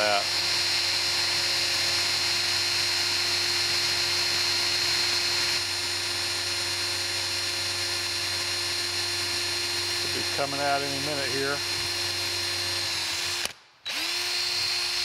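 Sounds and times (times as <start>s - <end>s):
cordless drill boring into metal: 0.0s - 15.0s.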